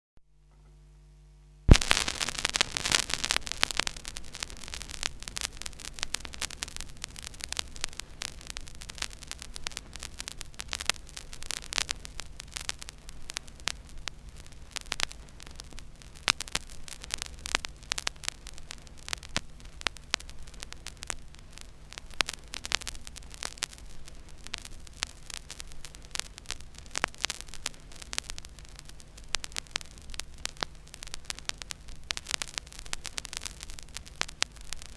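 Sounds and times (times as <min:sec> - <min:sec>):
low mains hum: 0:00.2 - 0:34.9
vinyl record surface crackle: 0:00.4 - 0:34.9.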